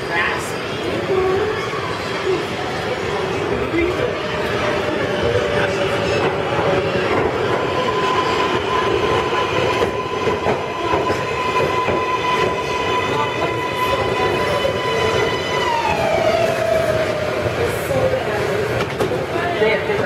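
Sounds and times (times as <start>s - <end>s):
train high whine: 0.0s - 17.9s
train wheels rumbling on rails: 2.4s - 20.0s.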